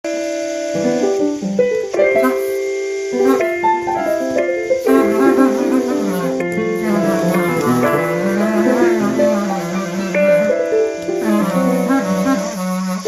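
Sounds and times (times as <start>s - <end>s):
piano-like chords: 0.0s - 13.0s.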